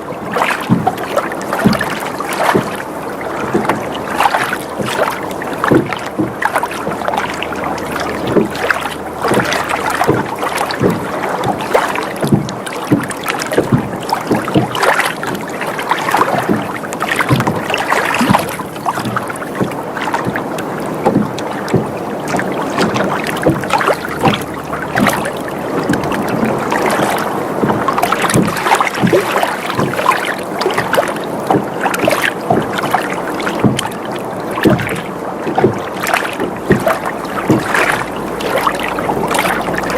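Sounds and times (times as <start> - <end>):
boat creaking: 0.0 - 39.9
water lapping against boat hull: 0.0 - 39.9.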